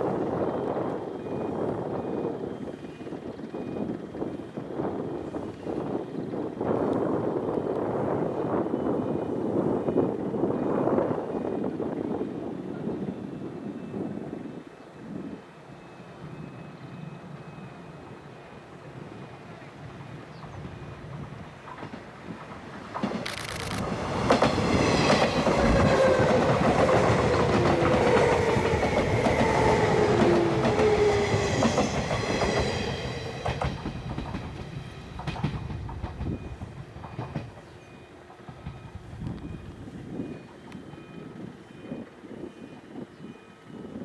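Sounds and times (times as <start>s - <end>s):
train passing with wheel clatter: 0.0s - 44.0s
train whine: 0.0s - 44.0s.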